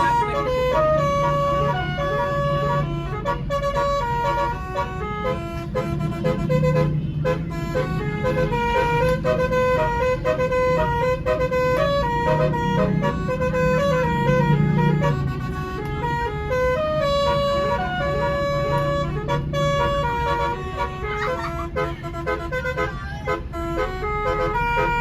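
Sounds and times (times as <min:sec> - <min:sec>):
low engine rumble: 0:00.0 - 0:25.0
multi-tone bus horn tune: 0:00.0 - 0:25.0.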